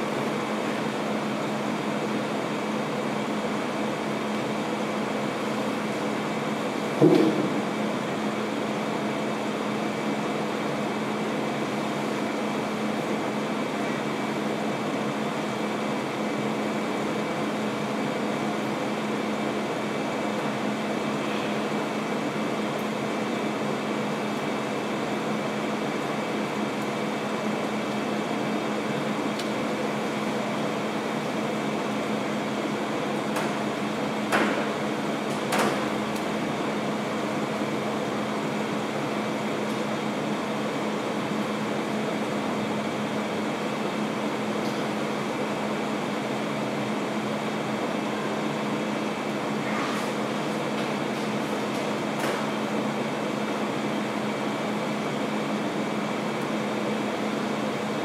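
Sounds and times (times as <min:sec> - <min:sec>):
air conditioning and fans humming: 0:00.0 - 0:58.0.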